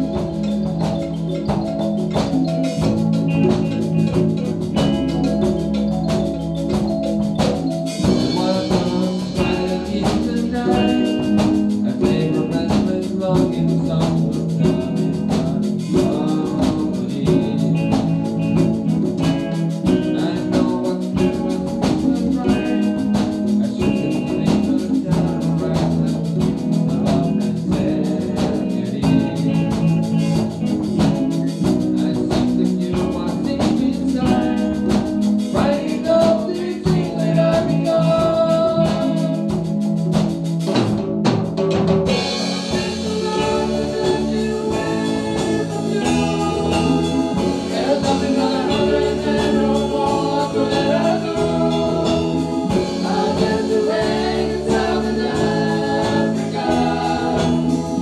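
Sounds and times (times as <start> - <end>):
person singing: 0.0 - 40.0, 42.1 - 58.0
live band playing: 0.0 - 58.0.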